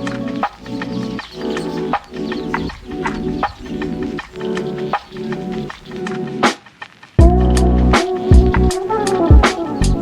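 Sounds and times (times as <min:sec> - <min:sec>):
repeating chord pattern music: 0:00.0 - 0:10.0.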